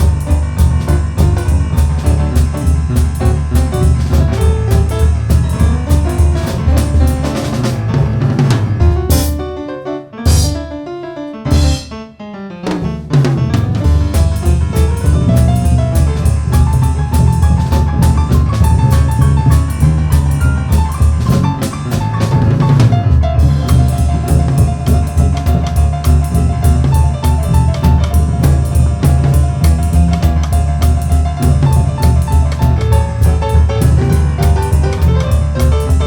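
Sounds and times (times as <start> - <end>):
drum kit beat: 0.0 - 9.7, 10.3 - 12.1, 12.7 - 36.0
boogie-woogie band playing: 0.0 - 36.0.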